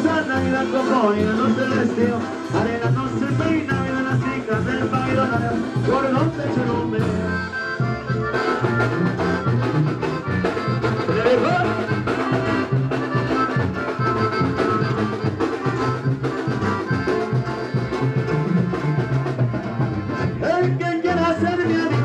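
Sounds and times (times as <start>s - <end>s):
brass band music: 0.0s - 22.0s.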